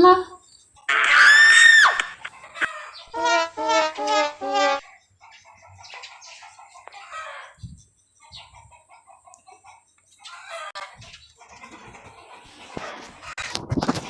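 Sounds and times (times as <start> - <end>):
chickens clucking: 2.2 - 14.0.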